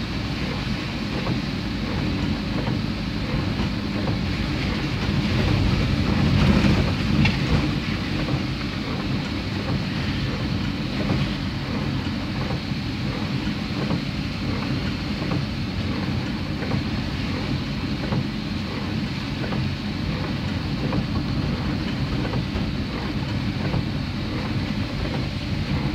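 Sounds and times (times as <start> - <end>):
rain and wet road hiss: 0.0 - 25.9
vehicle engine hum: 0.0 - 25.9.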